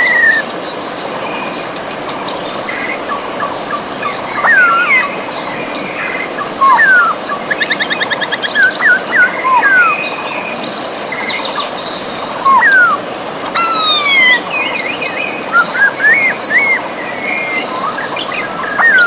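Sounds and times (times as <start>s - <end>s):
birds singing and calling: 0.0s - 19.0s
river water rushing: 0.0s - 19.0s.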